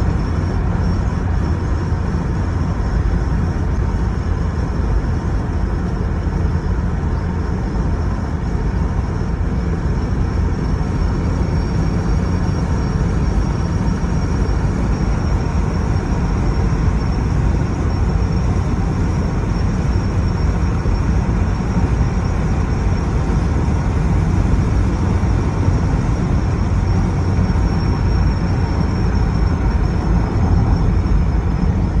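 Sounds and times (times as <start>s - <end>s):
faint high whine: 0.0s - 32.0s
vehicle engine: 0.0s - 32.0s.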